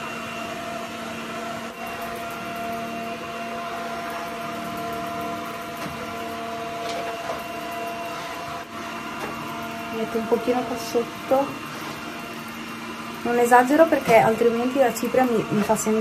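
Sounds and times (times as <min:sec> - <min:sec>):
constant whine: 0:00.0 - 0:16.0
robot vacuum motor hum: 0:00.0 - 0:16.0.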